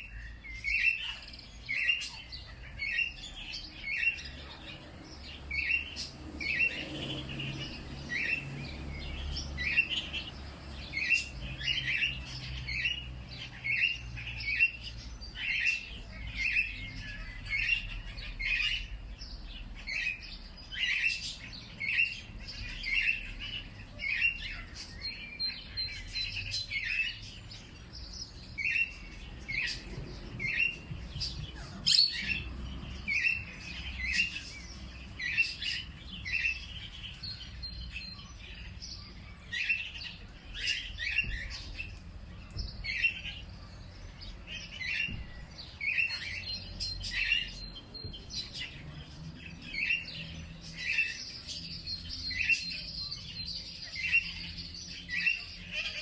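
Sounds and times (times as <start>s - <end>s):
bird chirps: 0.0s - 56.0s.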